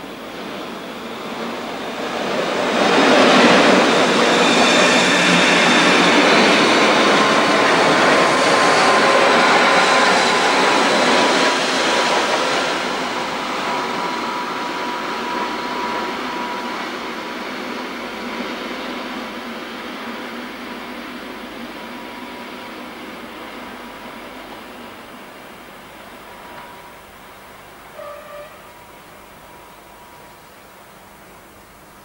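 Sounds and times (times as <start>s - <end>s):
high steady whine: 0.0s - 32.0s
train wheels rumbling on rail: 0.0s - 32.0s.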